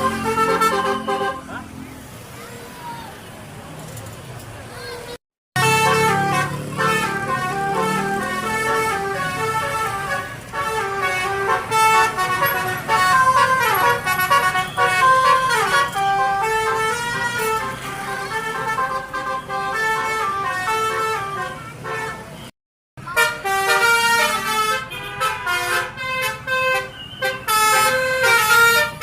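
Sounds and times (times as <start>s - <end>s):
musical bus horn playing a tune: 0.0s - 1.6s, 5.6s - 29.0s.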